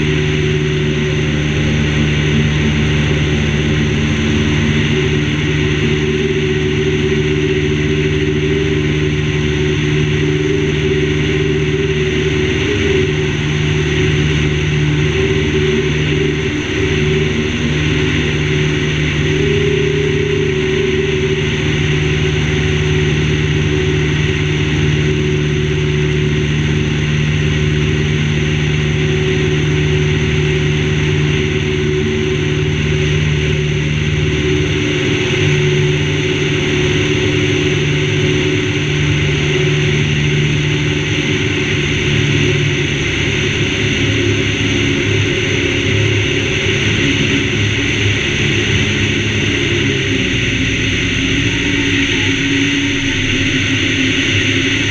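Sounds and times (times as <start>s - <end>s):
airplane engine and propeller running: 0.0s - 54.9s.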